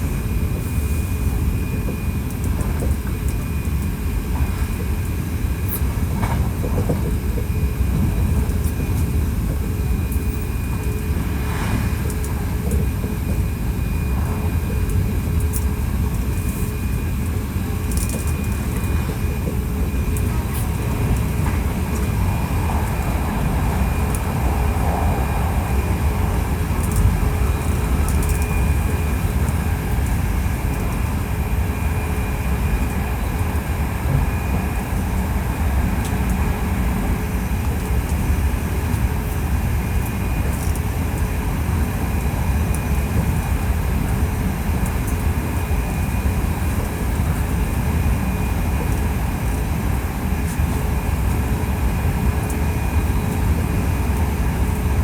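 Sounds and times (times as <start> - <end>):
faint steady whine: 0.0 - 55.0
train wheels rumbling on rail: 0.0 - 55.0.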